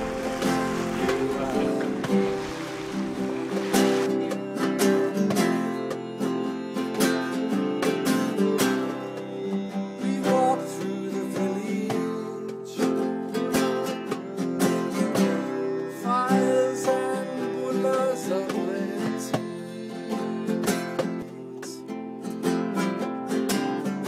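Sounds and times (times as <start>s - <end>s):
strummed acoustic guitar: 0.0s - 24.0s.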